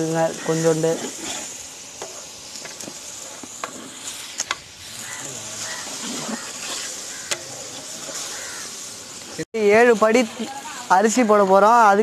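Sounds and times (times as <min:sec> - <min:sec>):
sizzling hiss in pot: 0:00.0 - 0:12.0.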